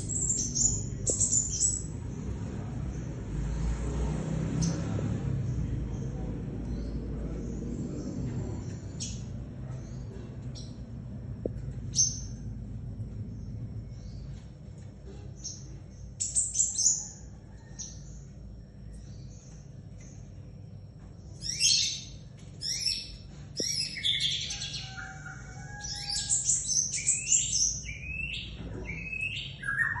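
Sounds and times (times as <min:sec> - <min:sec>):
sunbird twittering song: 0:00.0 - 0:03.2, 0:04.6 - 0:30.0
steady low hum: 0:00.0 - 0:30.0.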